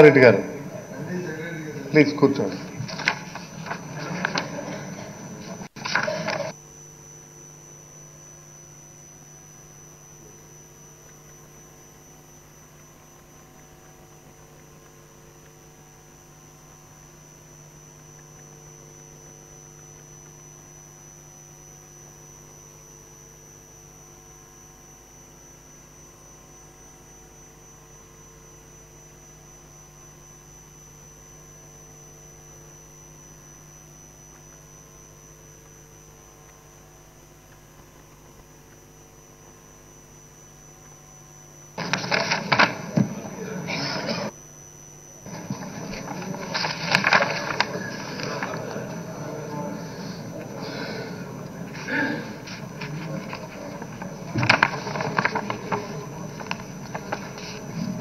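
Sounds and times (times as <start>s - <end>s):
electrical mains hum: 0.0s - 58.0s
high-pitched whine: 0.0s - 58.0s.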